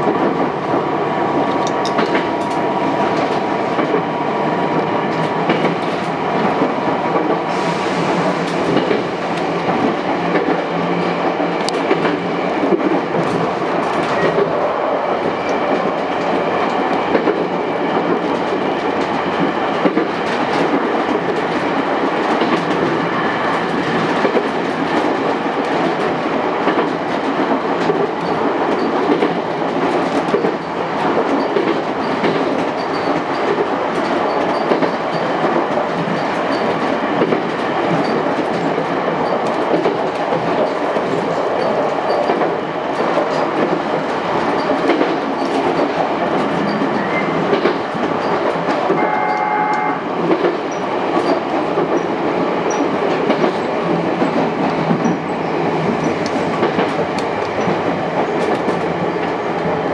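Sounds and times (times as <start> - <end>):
train wheels rumbling on rail: 0.0 - 59.9
wheels clacking over rail joints: 11.3 - 59.9.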